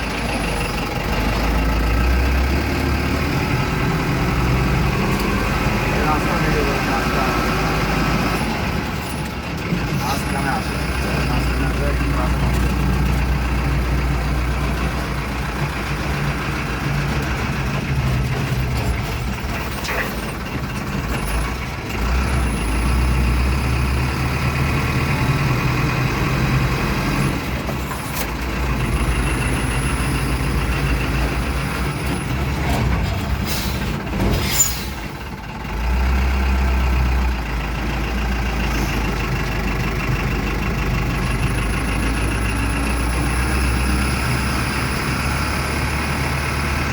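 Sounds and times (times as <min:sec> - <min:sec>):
truck engine from inside cab: 0:00.0 - 0:46.9.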